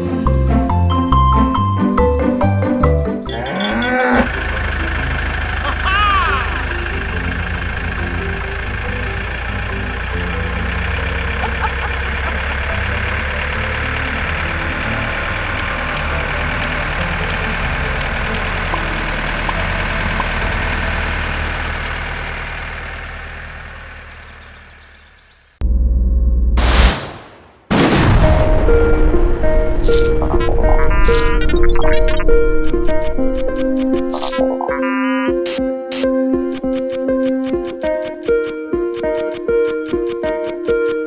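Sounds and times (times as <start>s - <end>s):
engine idling: 3.3s - 25.6s, 28.0s - 34.5s, 35.5s - 41.0s.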